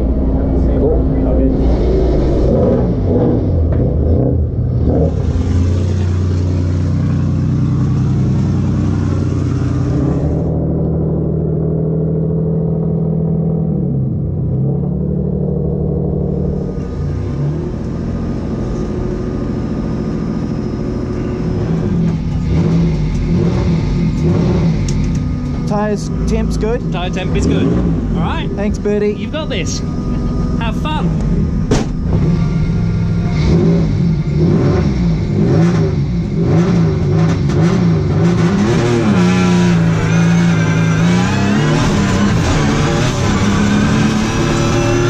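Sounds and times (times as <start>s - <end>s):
race car engine running: 0.0s - 45.0s.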